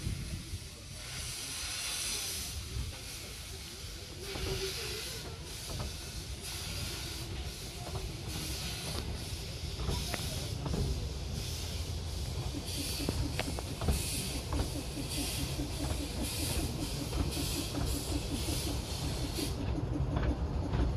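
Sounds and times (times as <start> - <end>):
low rumble of train: 0.0 - 20.9
steam locomotive hissing steam: 0.0 - 20.9.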